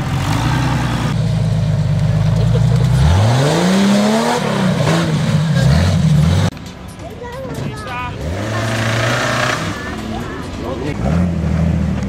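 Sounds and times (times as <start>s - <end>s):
engine revving: 0.0s - 6.6s, 7.8s - 12.0s.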